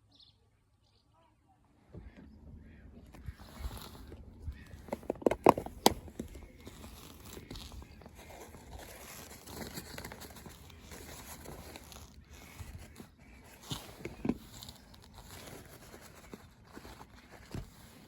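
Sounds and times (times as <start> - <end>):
crinkling and rustling: 1.9 - 18.0.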